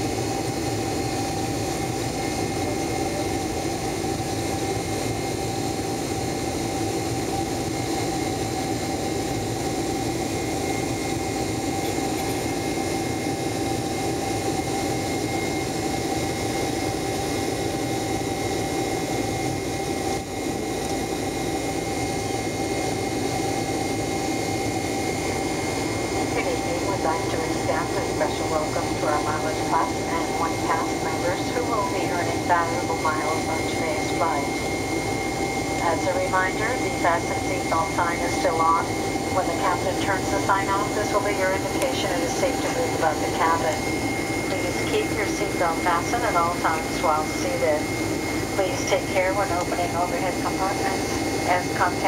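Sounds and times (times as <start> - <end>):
jet cabin drone: 0.0 - 52.0.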